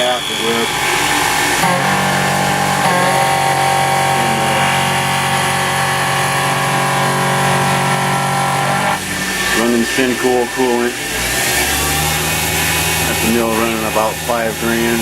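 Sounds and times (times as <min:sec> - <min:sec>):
milling machine whine: 0:00.0 - 0:15.0.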